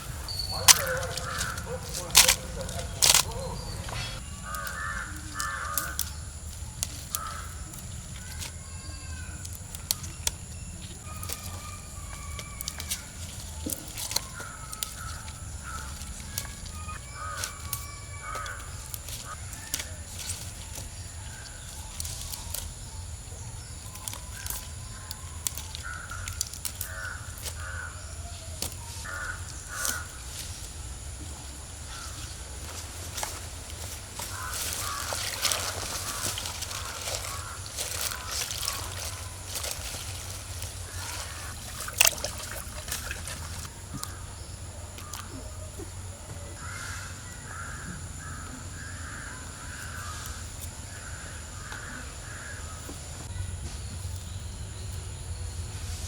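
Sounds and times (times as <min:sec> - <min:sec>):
crows cawing: 0:00.0 - 0:09.9, 0:11.0 - 0:22.4, 0:23.9 - 0:30.4, 0:31.9 - 0:45.4, 0:46.5 - 0:52.9.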